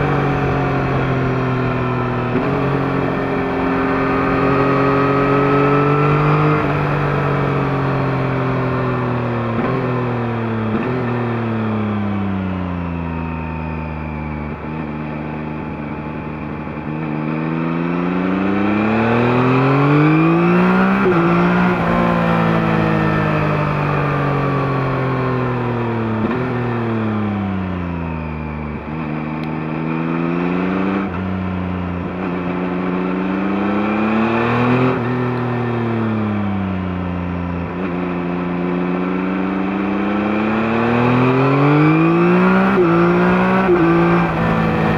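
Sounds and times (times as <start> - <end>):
motorcycle engine revving: 0.0 - 13.6, 14.4 - 44.9.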